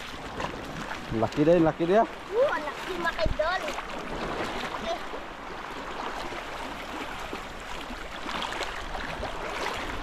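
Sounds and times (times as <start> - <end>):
water sloshing and lapping: 0.0 - 10.0.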